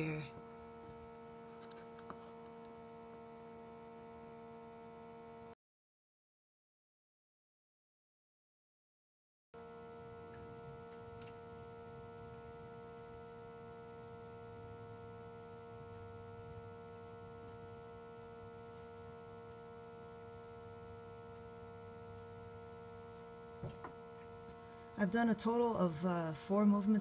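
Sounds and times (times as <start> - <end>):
faint steady hum: 0.0 - 5.6, 9.6 - 27.0.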